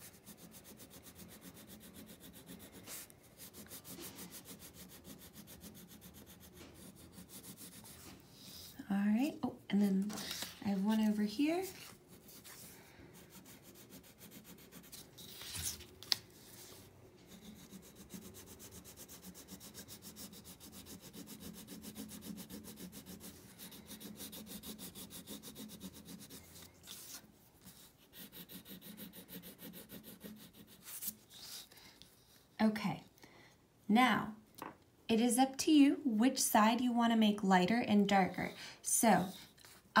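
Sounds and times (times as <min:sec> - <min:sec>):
colouring strokes on paper: 0:00.0 - 0:09.0, 0:10.0 - 0:15.8, 0:16.4 - 0:32.7, 0:38.1 - 0:40.0.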